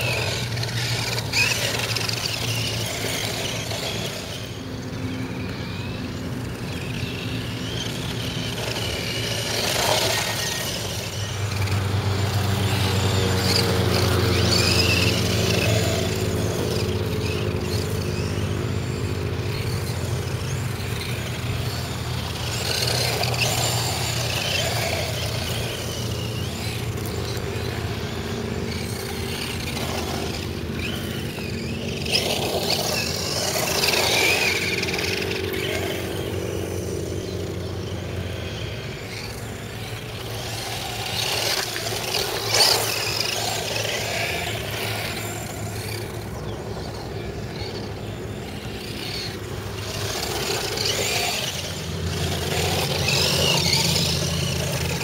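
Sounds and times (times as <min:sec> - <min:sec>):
rc car motor and tyres on dirt: 0:00.0 - 0:55.0.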